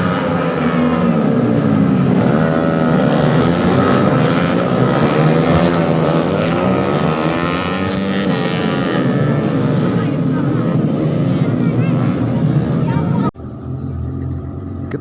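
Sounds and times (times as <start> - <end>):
racing motorcycles revving and passing: 0.0 - 15.0.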